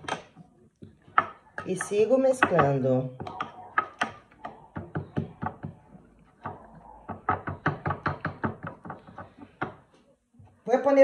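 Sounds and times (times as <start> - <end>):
wooden spoon stirring in a bowl: 0.0 - 10.8.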